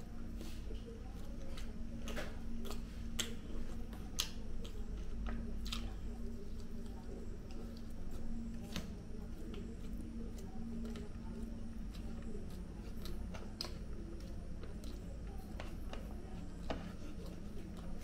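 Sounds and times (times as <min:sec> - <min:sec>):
chewing and lip-smacking: 0:00.0 - 0:18.0
steady low hum: 0:00.0 - 0:18.0.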